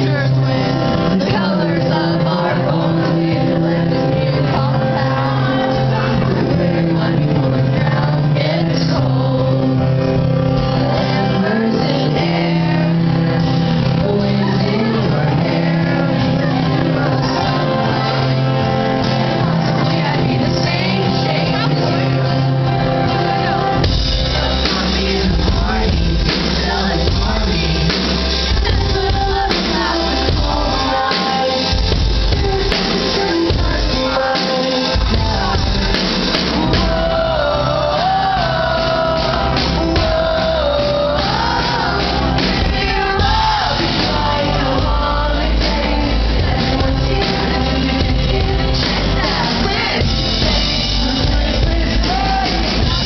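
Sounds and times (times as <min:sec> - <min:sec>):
live band music: 0:00.0 - 0:53.0
man singing: 0:00.0 - 0:53.0.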